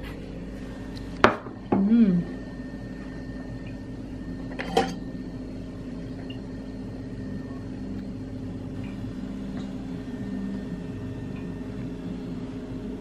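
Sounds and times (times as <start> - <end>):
appliance motor hum: 0.0 - 13.0.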